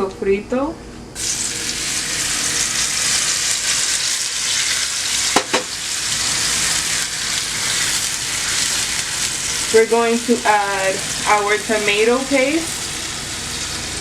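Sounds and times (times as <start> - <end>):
food sizzling in hot oil: 1.2 - 14.0.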